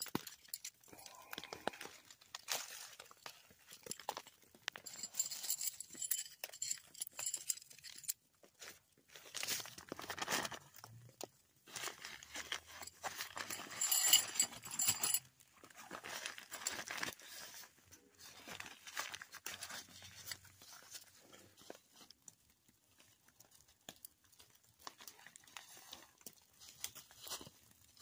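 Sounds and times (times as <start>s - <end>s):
gear rustling and crunching: 0.0s - 10.8s, 11.6s - 28.0s.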